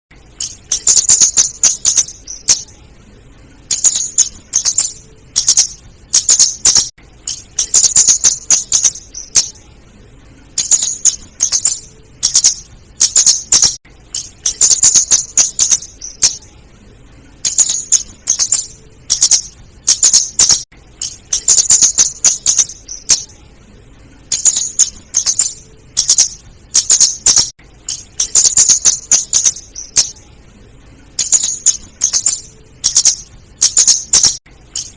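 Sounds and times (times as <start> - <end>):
bird calling with high ticking notes: 0.2 - 16.6, 17.2 - 34.9.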